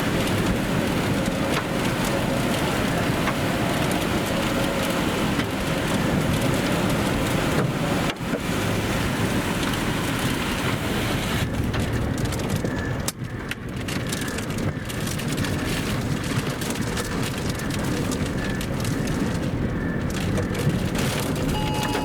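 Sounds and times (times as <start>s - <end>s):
wind and rain buffeting vehicle: 0.0s - 22.0s.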